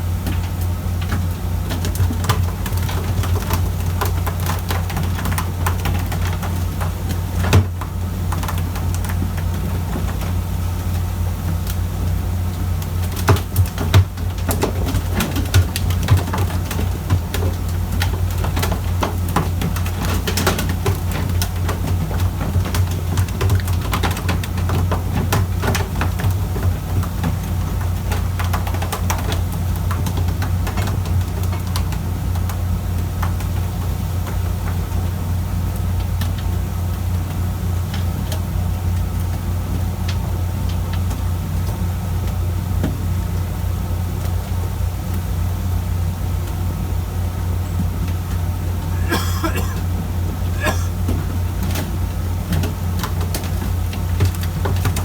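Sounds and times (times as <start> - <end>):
boat diesel engine humming: 0.0 - 55.0.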